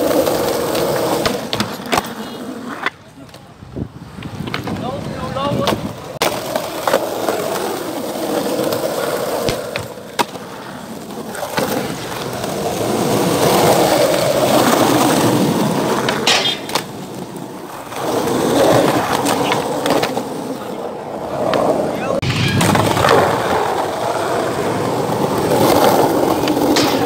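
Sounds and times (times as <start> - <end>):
skateboard clacks: 0.0 - 27.0
skateboard wheels rolling on concrete: 0.0 - 27.0.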